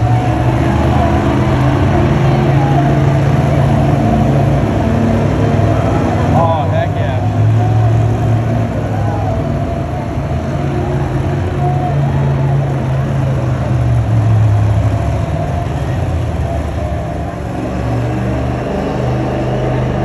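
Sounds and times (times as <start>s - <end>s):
loud truck engine running: 0.0s - 20.0s.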